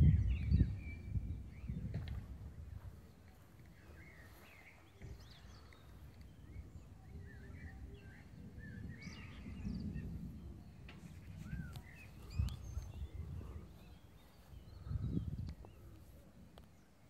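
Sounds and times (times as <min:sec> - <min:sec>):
uneven low rumble: 0:00.0 - 0:16.6
small songbirds chirping: 0:00.0 - 0:17.0.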